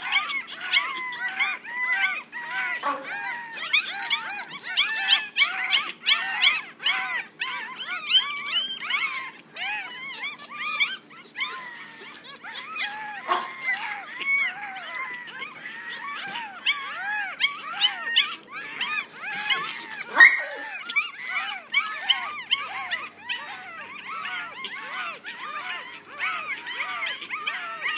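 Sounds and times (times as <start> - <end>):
puppies squeaking and whimpering: 0.0 - 27.9.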